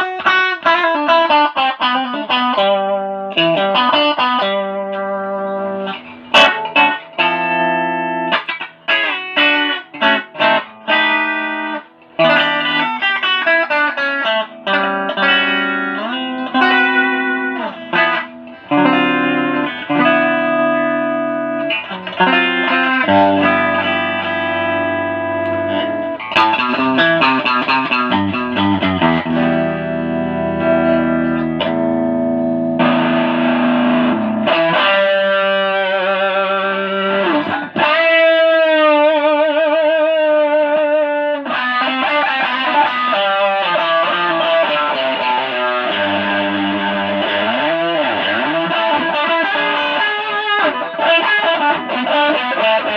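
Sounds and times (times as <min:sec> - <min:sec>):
electric guitar notes and chords: 0:00.0 - 0:52.9.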